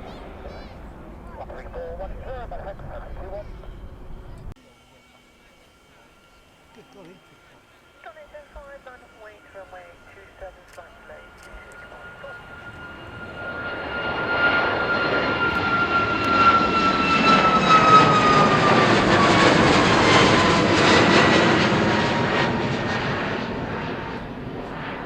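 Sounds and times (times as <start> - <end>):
jet aircraft passing: 0.0 - 25.0.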